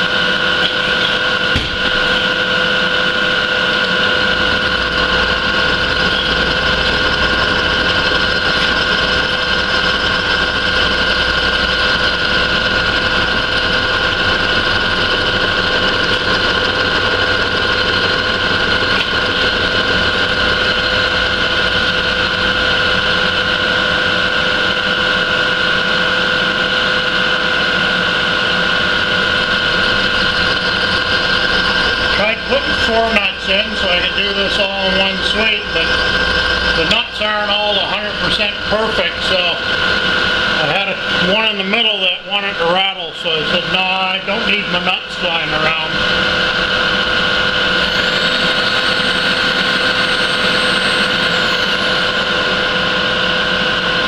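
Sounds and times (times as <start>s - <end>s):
milling machine humming and whining: 0.0s - 54.0s.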